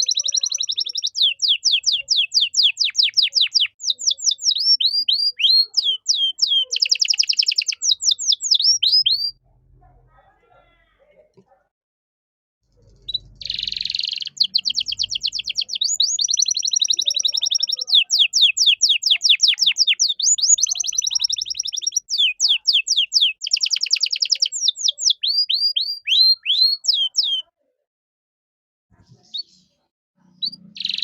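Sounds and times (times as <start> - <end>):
canary singing trills: 0.0 - 9.5, 12.7 - 27.5, 29.1 - 31.0.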